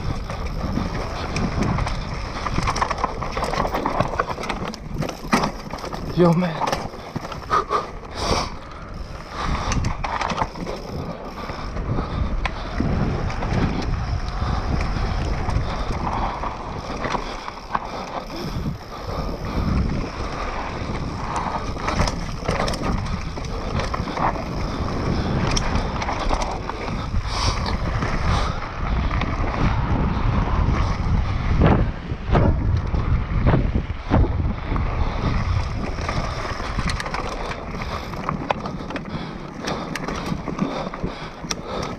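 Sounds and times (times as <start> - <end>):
bike rattling and knocking: 0.0 - 41.9
tyres rolling over dirt and rocks: 0.0 - 41.9
wind buffeting microphone: 0.0 - 41.9.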